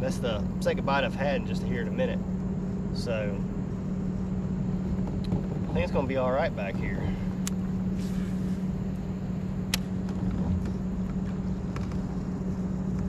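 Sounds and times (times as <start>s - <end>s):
faint rumble: 0.0s - 13.0s
low motor hum: 0.0s - 13.0s.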